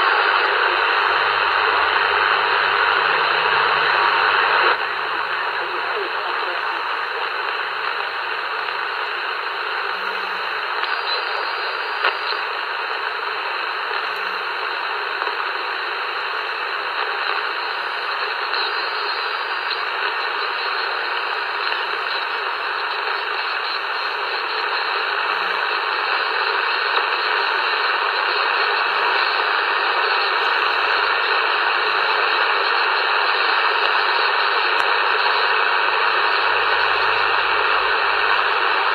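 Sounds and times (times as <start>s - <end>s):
radio static hiss: 0.0s - 38.9s.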